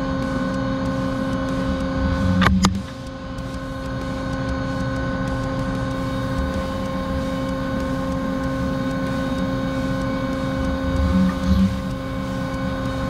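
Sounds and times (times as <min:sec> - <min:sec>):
machining spindle hum and whine: 0:00.0 - 0:13.0.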